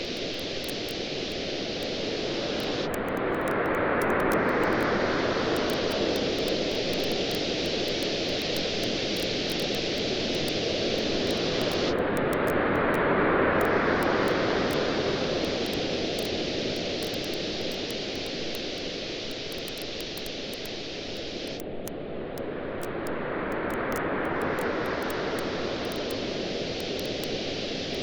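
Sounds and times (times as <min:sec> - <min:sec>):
ocean waves washing on beach: 0:00.0 - 0:28.0.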